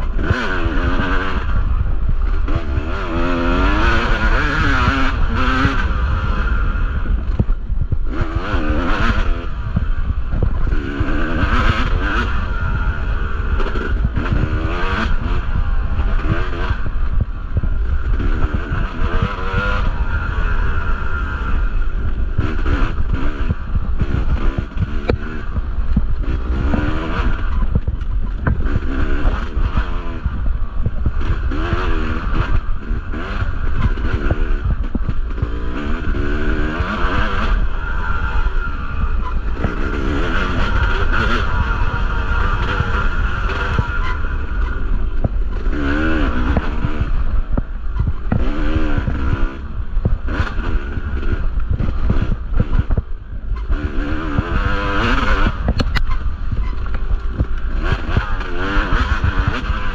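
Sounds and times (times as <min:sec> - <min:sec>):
dirt bike engine revving: 0:00.0 - 0:59.9
heavy low rumble: 0:00.0 - 0:59.9.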